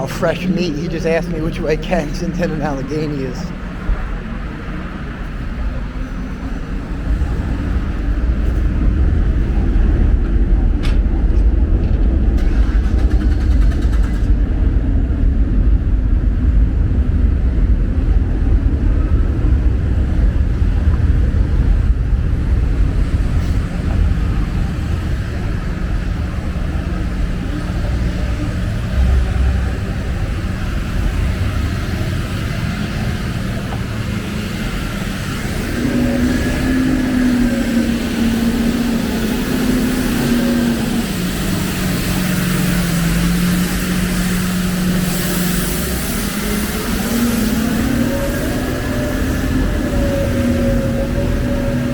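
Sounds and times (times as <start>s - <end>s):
traffic rumble: 0.0s - 51.9s.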